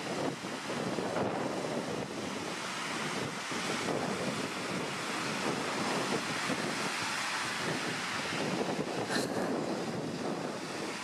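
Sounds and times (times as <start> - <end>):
surf washing onto shore: 0.0 - 11.0
wind buffeting microphone: 0.0 - 11.0.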